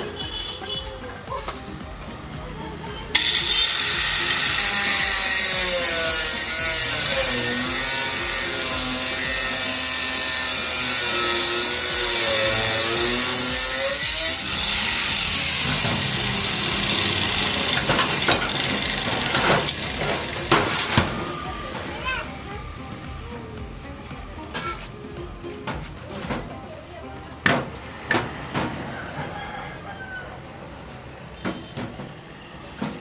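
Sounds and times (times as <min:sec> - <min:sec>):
power tool grinding metal: 0:00.0 - 0:33.0.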